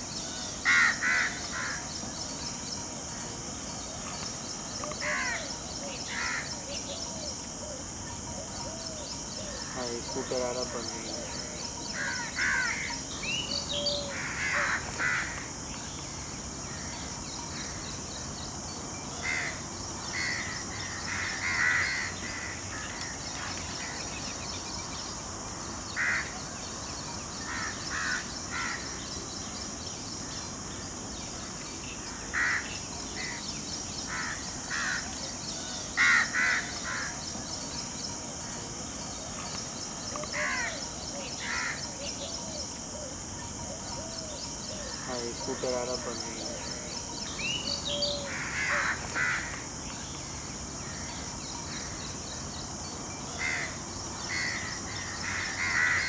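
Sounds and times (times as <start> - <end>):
high-pitched hiss: 0.0 - 56.0.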